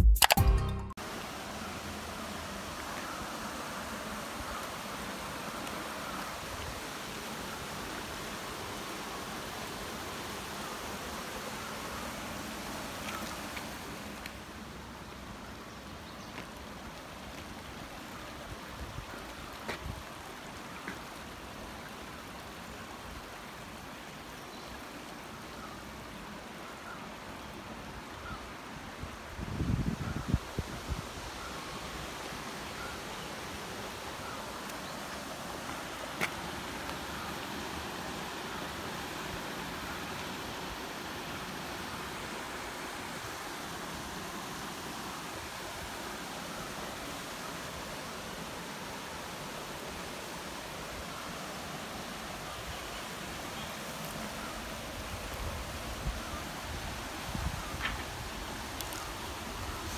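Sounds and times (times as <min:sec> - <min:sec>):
stream running over rocks: 0:01.0 - 0:59.9.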